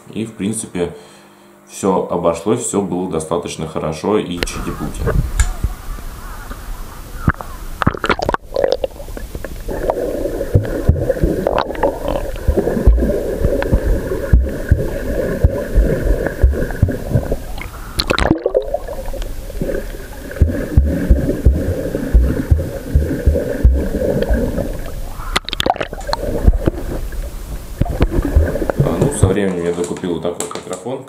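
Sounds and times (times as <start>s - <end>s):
muffled water gurgling and sloshing: 4.4s - 29.4s.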